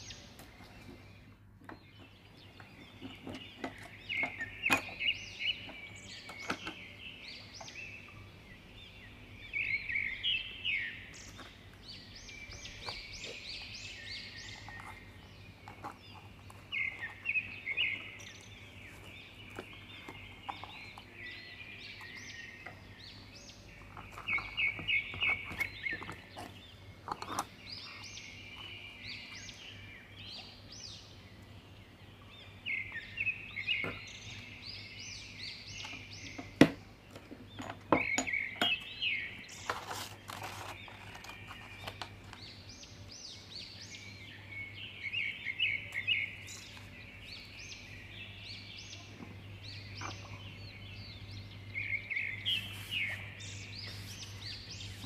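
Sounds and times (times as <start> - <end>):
small bird chirping and trilling: 0.0 - 31.2, 37.5 - 55.0.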